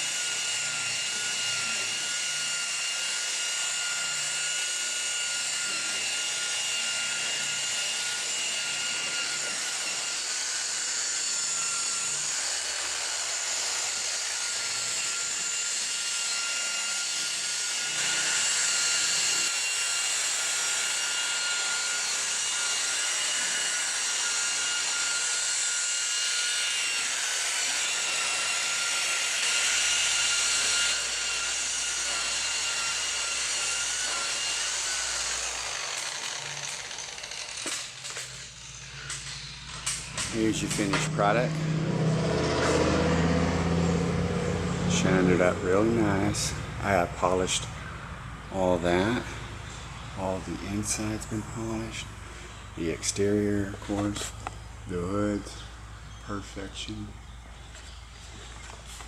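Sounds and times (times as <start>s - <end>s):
electric polisher motor whine: 0.0s - 59.0s.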